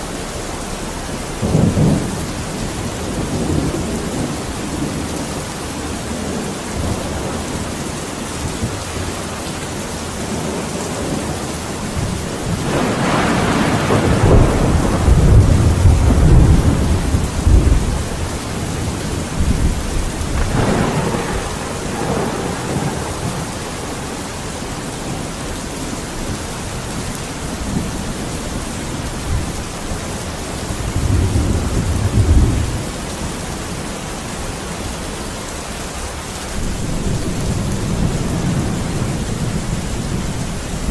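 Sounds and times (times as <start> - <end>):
steady rain: 0.0 - 40.9
rolling thunder: 0.3 - 34.0, 36.5 - 40.9.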